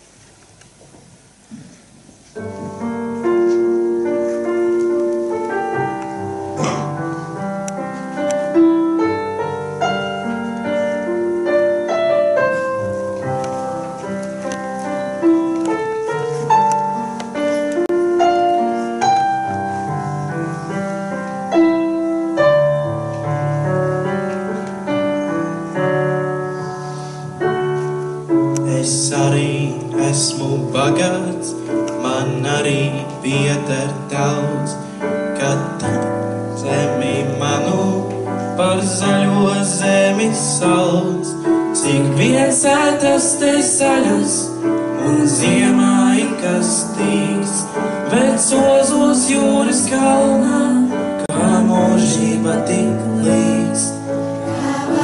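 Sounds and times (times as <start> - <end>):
piano melody over chords: 2.4 - 55.0.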